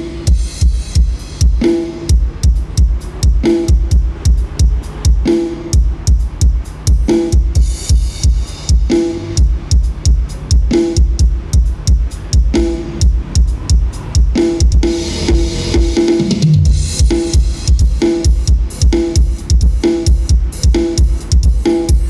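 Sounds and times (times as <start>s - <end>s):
dance music with heavy kick drum: 0.0s - 22.0s.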